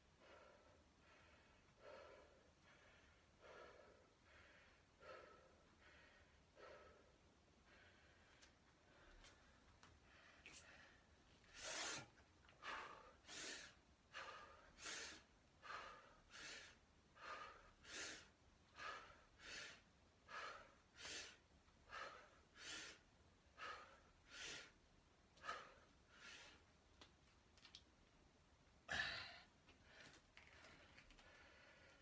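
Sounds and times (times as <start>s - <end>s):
man breathing hard: 0.2s - 24.8s, 25.4s - 26.7s, 28.9s - 32.0s.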